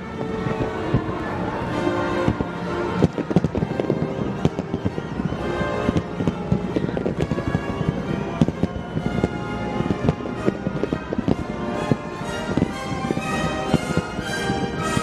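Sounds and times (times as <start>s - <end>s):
fireworks bangs and crackles: 0.0s - 15.0s
music playing: 0.0s - 15.0s.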